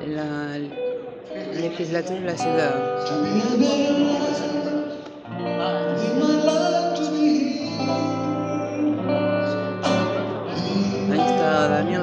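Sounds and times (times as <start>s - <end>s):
acoustic guitar: 0.0s - 12.0s
man singing: 1.3s - 12.0s.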